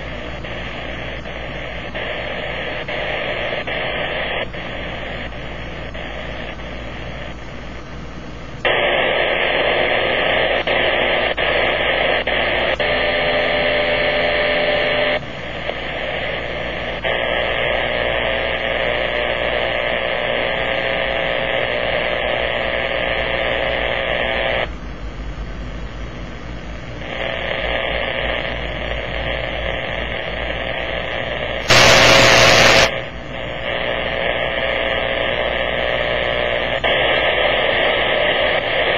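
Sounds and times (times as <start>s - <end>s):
loud burst of radio noise: 0.0s - 7.4s, 8.6s - 24.7s, 27.0s - 38.9s
harsh radio interference hiss: 0.0s - 7.9s, 8.5s - 24.8s, 26.8s - 38.9s.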